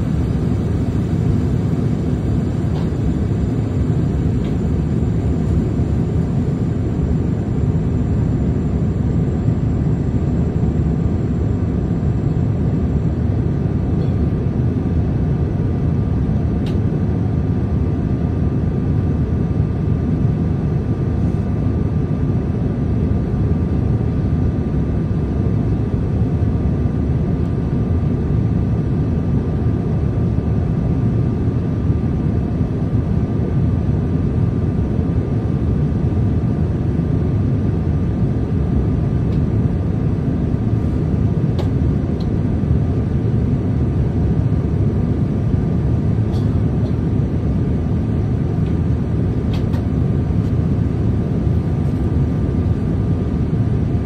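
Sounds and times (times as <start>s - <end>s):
airliner cabin rumble: 0.0s - 54.0s
faint steady whine: 0.0s - 54.0s.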